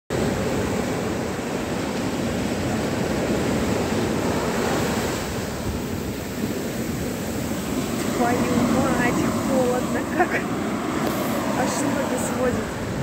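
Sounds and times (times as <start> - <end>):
surf breaking on beach: 0.1 - 13.0.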